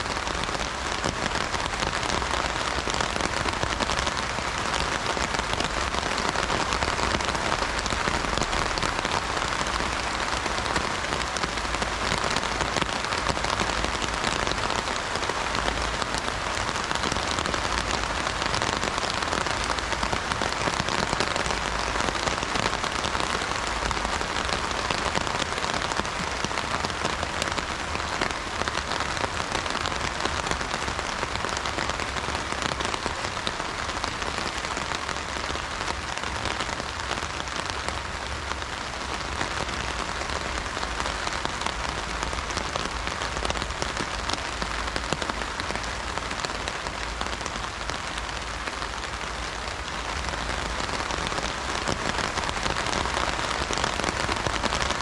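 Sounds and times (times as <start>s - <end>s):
heavy rain on an umbrella: 0.0s - 55.0s.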